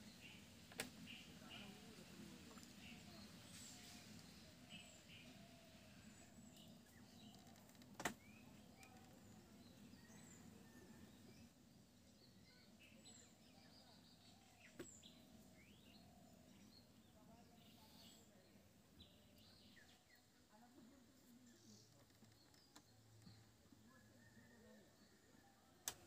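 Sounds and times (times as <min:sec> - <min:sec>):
faint bird chirps: 0:00.0 - 0:25.8.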